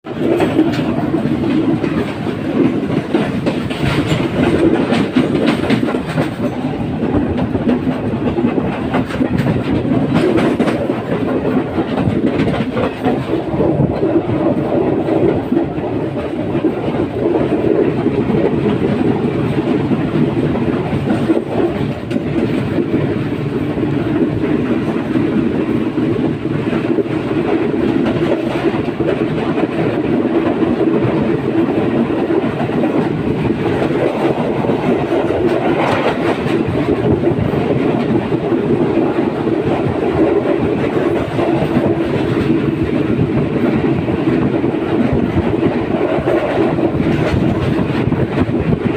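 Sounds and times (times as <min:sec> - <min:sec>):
train rumbling: 0:00.0 - 0:48.9
wheels clacking over rail joints: 0:00.1 - 0:48.9.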